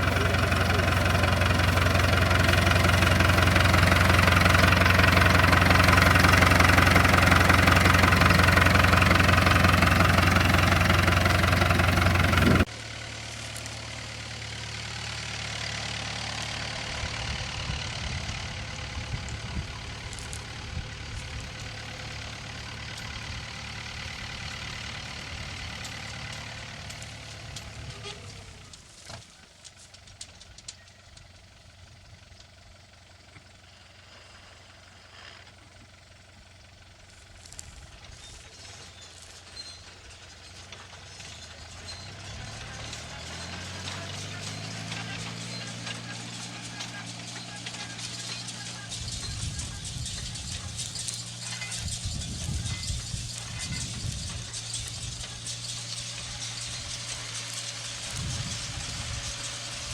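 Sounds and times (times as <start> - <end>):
distant engine: 0.0 - 59.9
loud farm machinery engine: 0.0 - 59.9.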